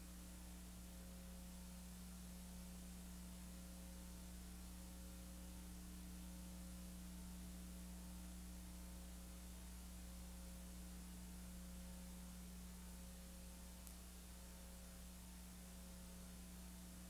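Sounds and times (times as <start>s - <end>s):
faint hiss: 0.0s - 17.0s
low electrical hum: 0.0s - 17.0s.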